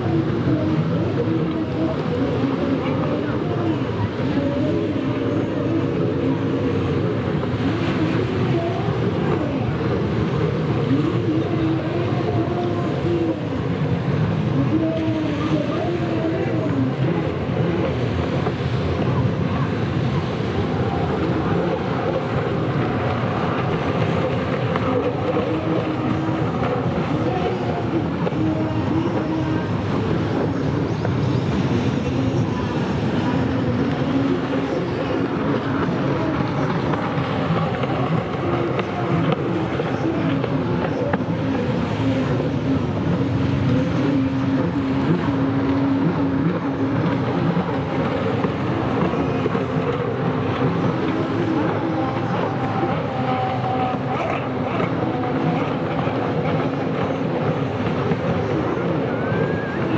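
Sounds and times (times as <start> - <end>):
jet ski engines running hard: 0.0 - 59.9.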